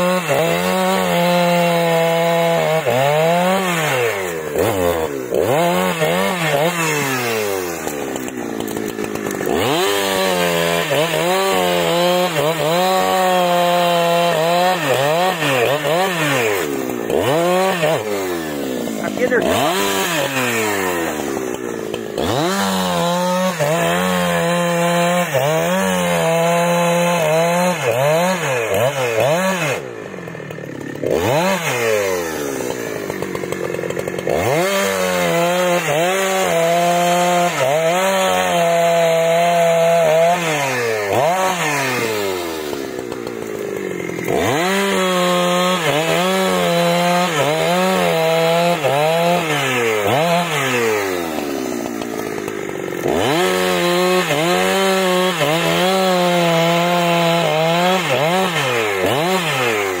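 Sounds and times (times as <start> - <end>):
chainsaw cutting logs: 0.0 - 60.0.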